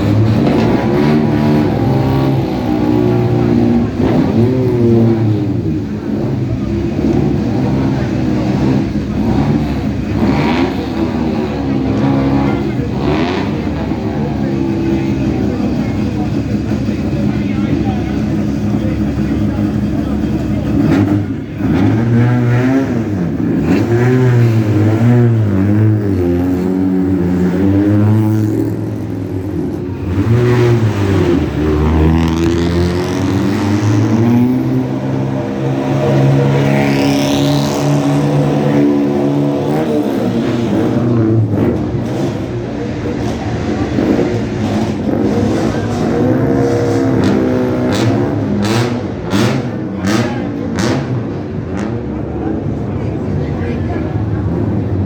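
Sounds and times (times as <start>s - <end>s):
sports car engines revving: 0.0s - 55.0s.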